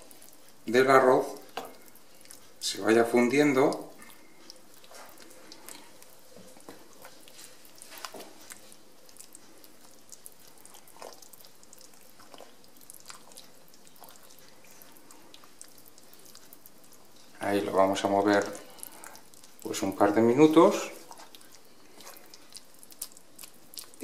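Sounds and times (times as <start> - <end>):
spoon stirring thick risotto: 0.0 - 24.0.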